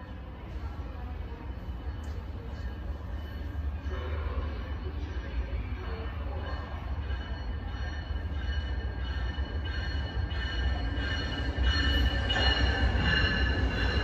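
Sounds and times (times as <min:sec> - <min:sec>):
train rumbling: 0:00.0 - 0:14.0
high train squeal: 0:01.5 - 0:14.0.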